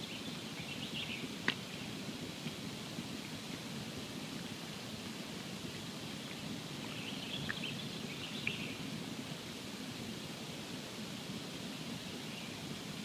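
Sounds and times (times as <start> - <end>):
campfire hissing and crackling: 0.0 - 13.0.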